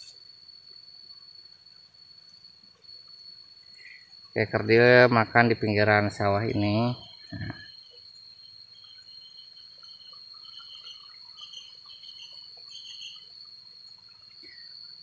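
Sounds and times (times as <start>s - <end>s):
faint chirps: 0.0s - 15.0s
insect drone: 0.0s - 15.0s.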